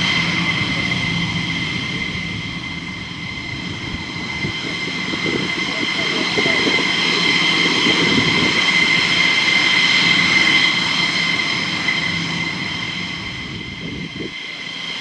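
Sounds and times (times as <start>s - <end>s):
jet engine whine and rumble: 0.0s - 15.0s.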